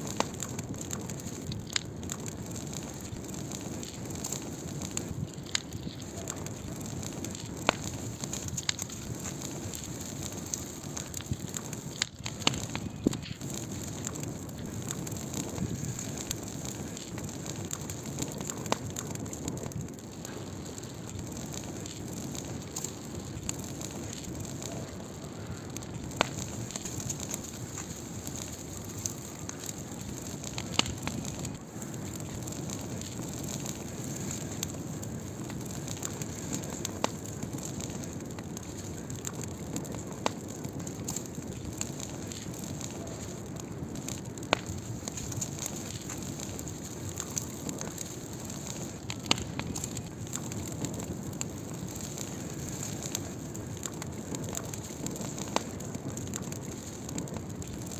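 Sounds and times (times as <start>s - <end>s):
firewood crackling and hissing: 0.0s - 57.9s
sharp pops of burning wood: 0.0s - 57.9s.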